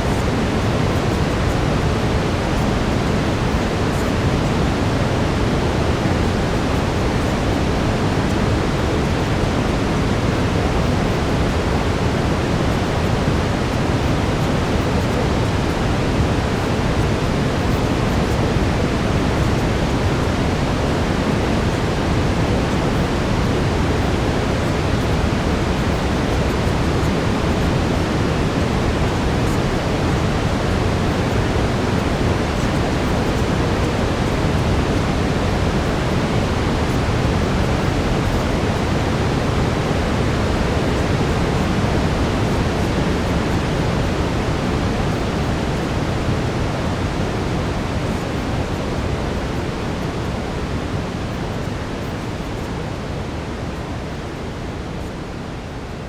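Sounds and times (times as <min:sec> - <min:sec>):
deep rushing brown noise: 0:00.0 - 0:56.0.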